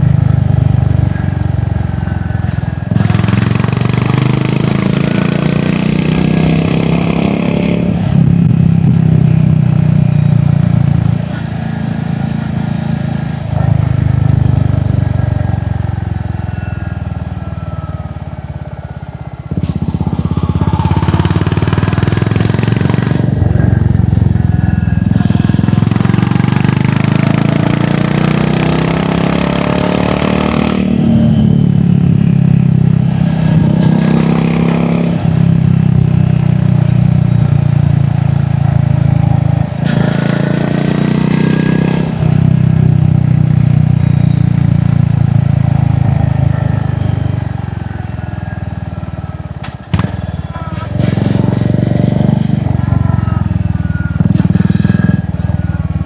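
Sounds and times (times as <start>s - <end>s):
motorcycle engine revving through gears: 0.0s - 56.0s.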